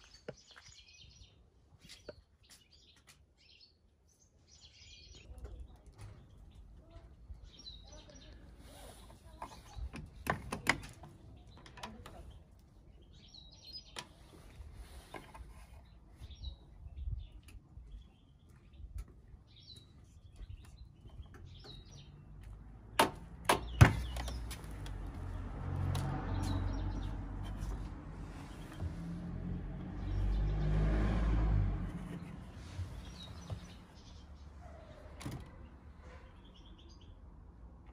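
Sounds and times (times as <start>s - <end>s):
small birds chirping: 0.0s - 23.0s, 23.6s - 25.5s, 26.2s - 30.9s, 31.9s - 37.9s.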